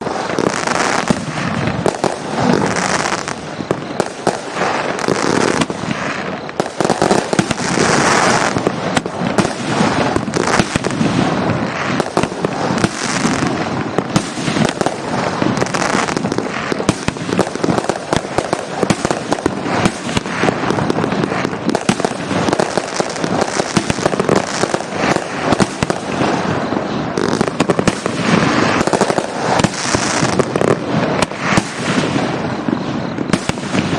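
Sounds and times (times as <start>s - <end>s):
fireworks shots and bursts: 0.0s - 33.9s.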